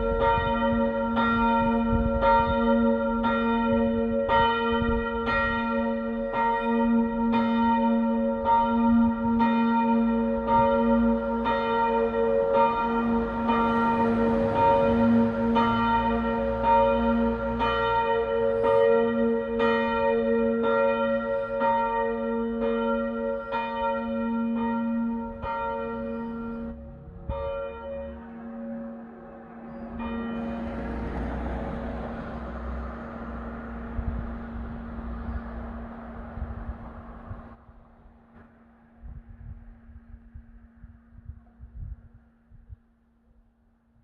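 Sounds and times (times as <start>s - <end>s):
church bells ringing: 0.0s - 37.6s.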